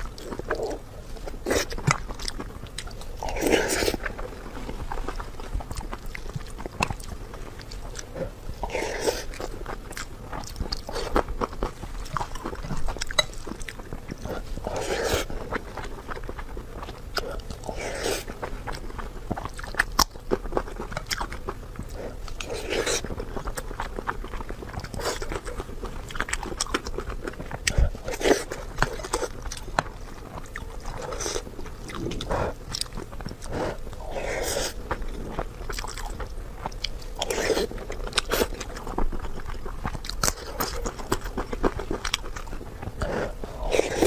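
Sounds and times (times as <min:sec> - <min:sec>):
crunching and wet chewing: 0:00.0 - 0:44.0.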